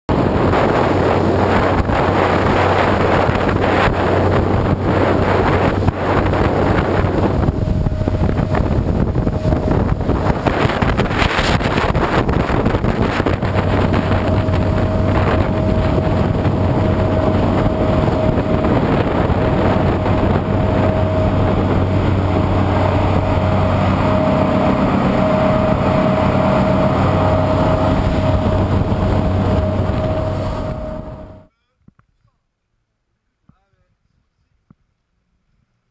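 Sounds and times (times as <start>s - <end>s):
motorboat engines running: 0.1s - 31.5s
steady high whine: 0.1s - 31.5s
wind buffeting microphone: 0.1s - 31.5s.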